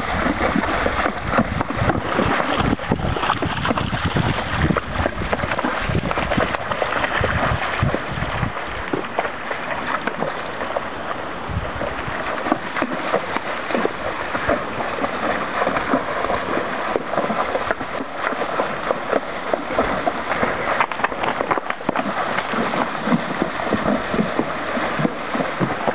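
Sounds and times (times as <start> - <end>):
animals splashing through water: 0.0 - 25.9
shallow river running: 0.0 - 25.9.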